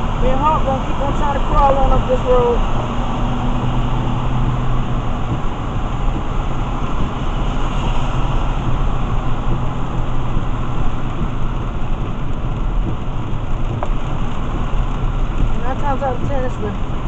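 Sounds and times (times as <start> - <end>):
engine hum: 0.0 - 17.0
rain on car: 0.0 - 17.0
tyres hissing on wet road: 0.0 - 17.0.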